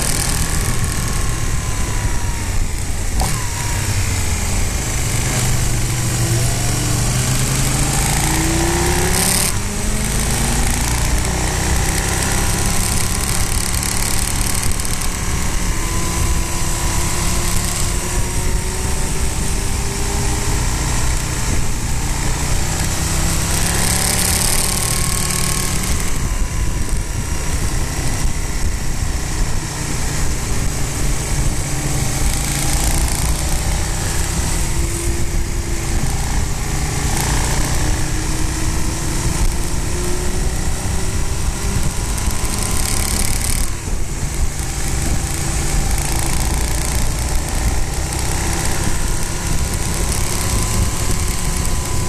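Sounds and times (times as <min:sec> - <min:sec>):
motorcycle engine revving: 0:00.0 - 0:52.0
wind on microphone: 0:00.0 - 0:52.0.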